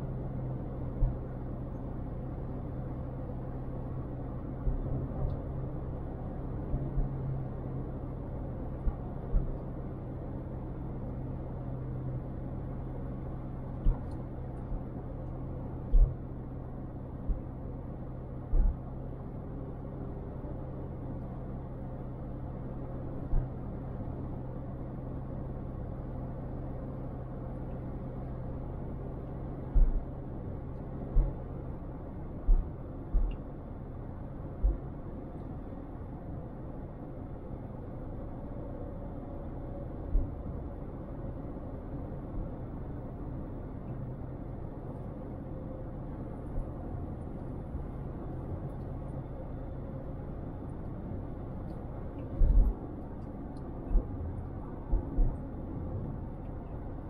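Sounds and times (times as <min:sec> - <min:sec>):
low hum: 0:00.0 - 0:57.0
road and engine rumble: 0:00.0 - 0:57.0.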